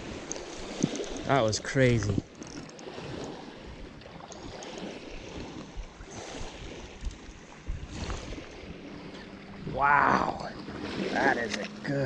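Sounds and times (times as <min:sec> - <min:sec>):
small waves lapping on pebbles: 0:00.0 - 0:12.0.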